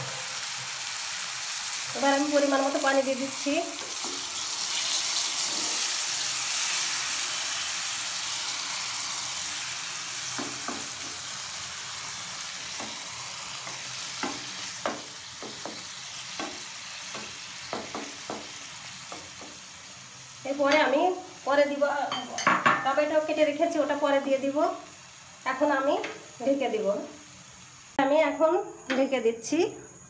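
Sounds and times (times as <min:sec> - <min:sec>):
water sizzling in hot pan: 0:00.0 - 0:28.6.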